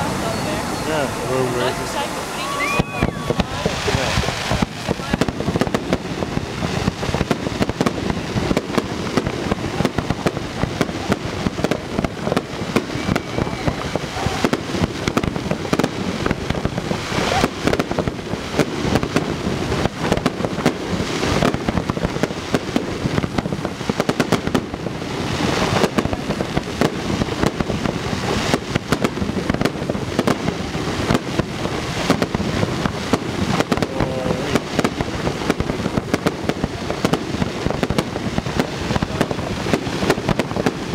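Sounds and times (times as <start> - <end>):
fireworks bangs and crackle: 0.0 - 40.9
fireworks hissing rushes: 0.0 - 40.9.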